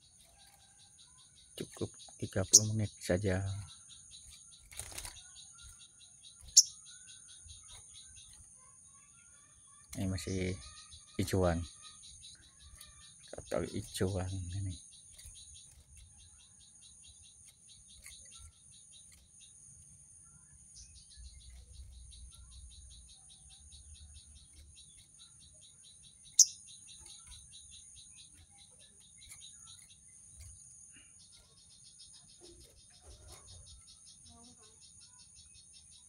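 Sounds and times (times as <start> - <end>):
sharp loud bird chirp: 0.0 - 19.6, 20.2 - 36.0
pulsing cricket-like trill: 0.0 - 36.0.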